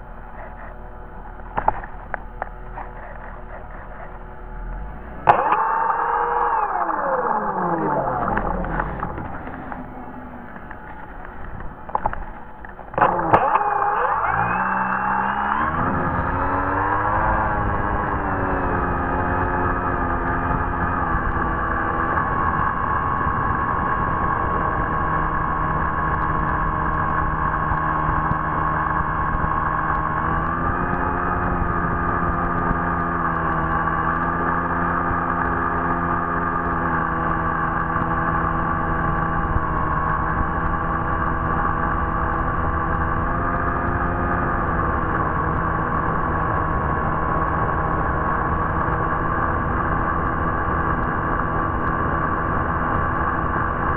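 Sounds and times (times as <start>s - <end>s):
electric motor whine: 0.0s - 53.9s.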